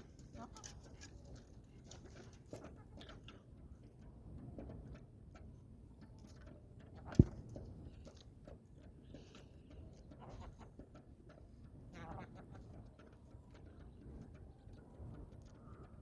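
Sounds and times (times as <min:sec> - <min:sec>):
chickens pecking at feed: 0:00.0 - 0:16.0.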